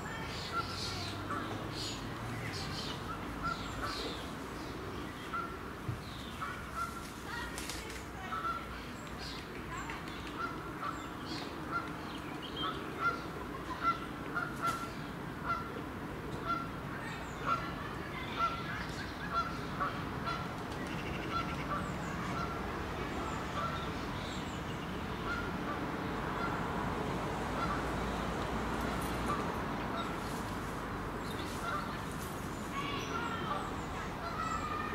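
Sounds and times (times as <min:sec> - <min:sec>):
low background noise: 0:00.0 - 0:34.9.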